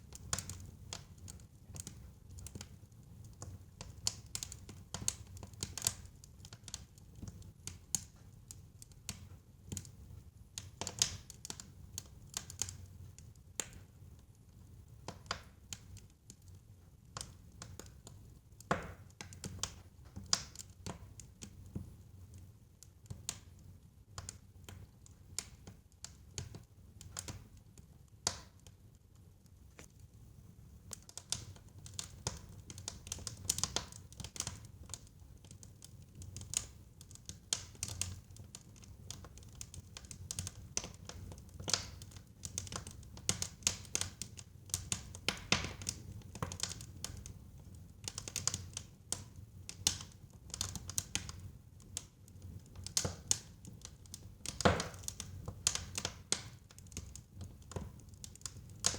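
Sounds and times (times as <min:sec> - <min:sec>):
low rumble of burning: 0:00.0 - 0:58.9
wood fire crackling: 0:00.0 - 0:58.9.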